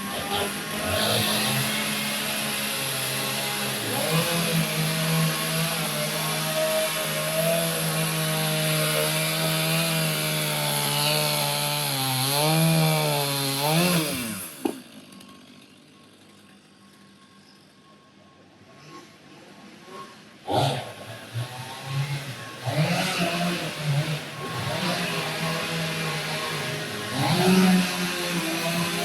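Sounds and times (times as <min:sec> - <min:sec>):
chainsaw cutting into log: 0:00.0 - 0:15.9, 0:20.4 - 0:29.0.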